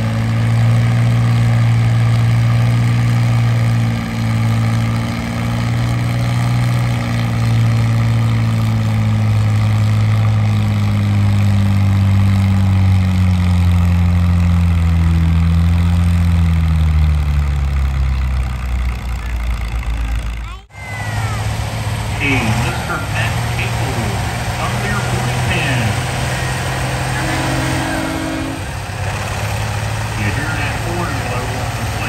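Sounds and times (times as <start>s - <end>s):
diesel tractor engine under load: 0.0s - 32.0s.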